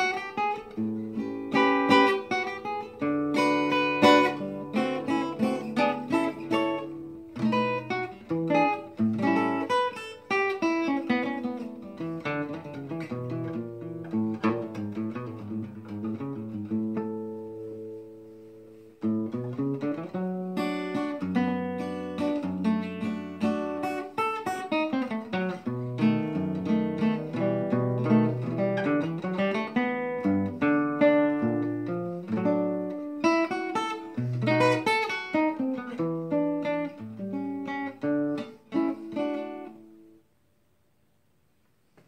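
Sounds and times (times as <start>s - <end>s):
solo acoustic guitar jazz: 0.0s - 42.0s.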